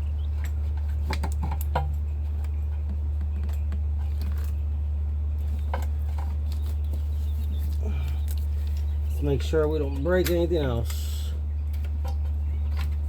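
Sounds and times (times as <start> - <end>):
engine parts clicking: 0.0 - 13.0
steady low hum: 0.0 - 13.0.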